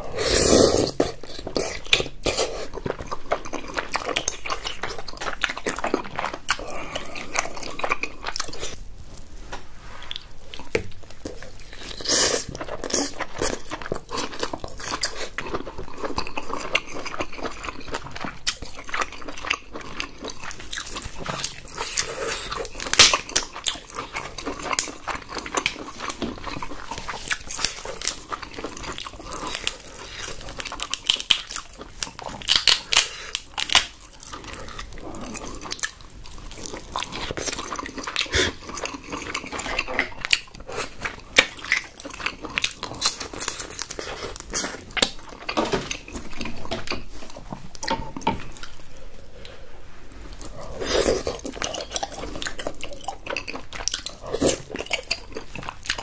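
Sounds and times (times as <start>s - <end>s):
wet chewing and smacking: 0.9s - 9.3s, 10.0s - 49.0s, 50.2s - 56.0s.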